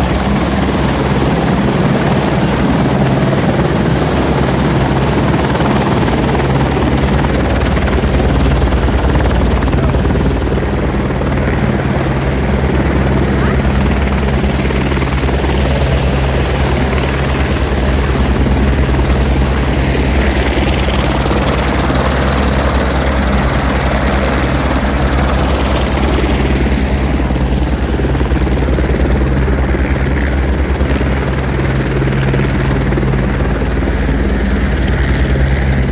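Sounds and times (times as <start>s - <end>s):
helicopter rotor beating: 0.0s - 35.9s.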